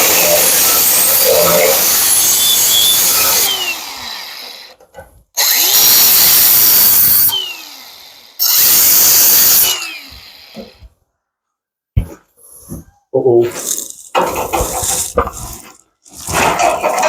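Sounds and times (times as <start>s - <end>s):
grinder cutting metal: 0.0s - 4.8s, 5.4s - 10.9s, 13.6s - 17.0s.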